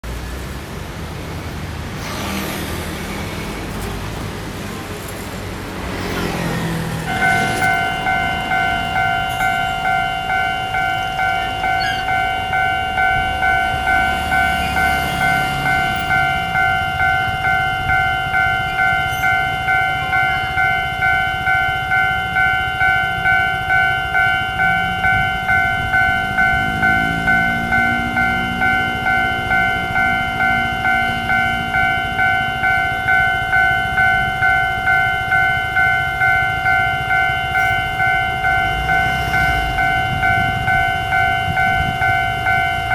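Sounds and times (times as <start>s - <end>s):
low engine drone: 0.0s - 42.8s
level crossing bell ringing: 2.8s - 42.9s.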